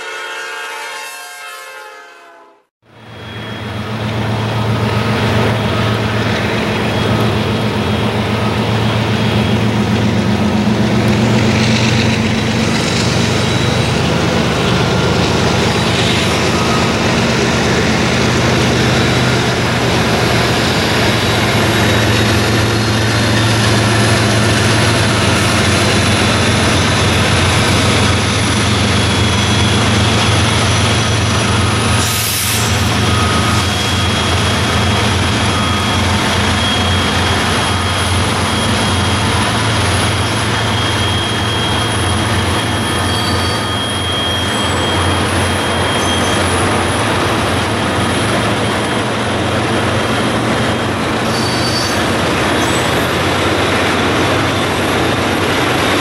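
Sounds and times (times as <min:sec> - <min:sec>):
diesel locomotive engine drone: 0:02.8 - 0:56.0.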